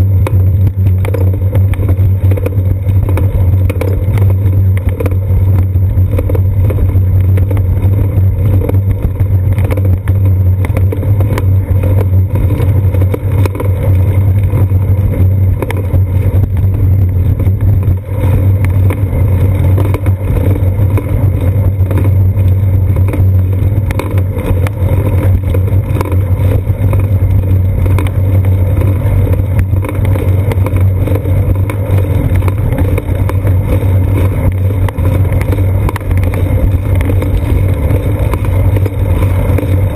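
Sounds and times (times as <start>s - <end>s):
bicycle rolling on concrete: 0.0s - 39.9s
wind rumble: 0.0s - 39.9s.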